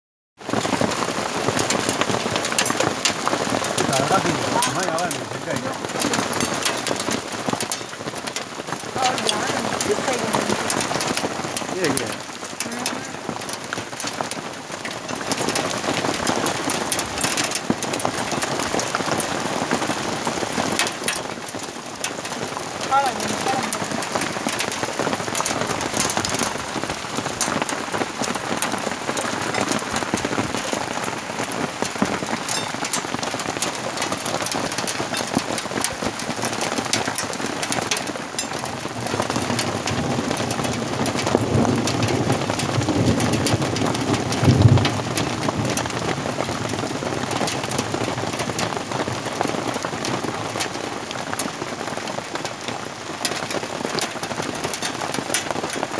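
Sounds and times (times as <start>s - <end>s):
hail and rain pelting: 0.4s - 55.9s.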